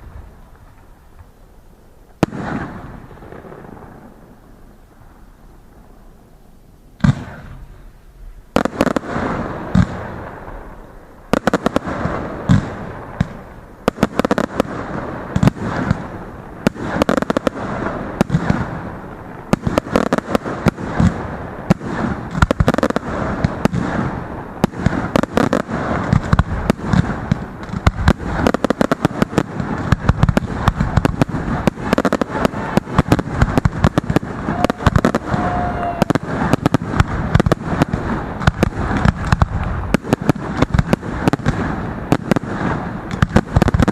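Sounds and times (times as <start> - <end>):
firework bangs: 0.0 - 43.9
fireworks barrage and crackling: 0.0 - 43.9.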